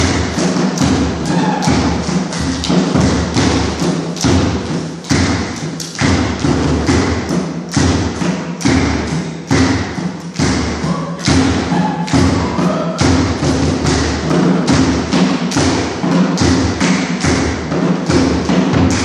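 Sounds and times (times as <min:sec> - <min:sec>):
group stomping and clapping: 0:00.0 - 0:19.0.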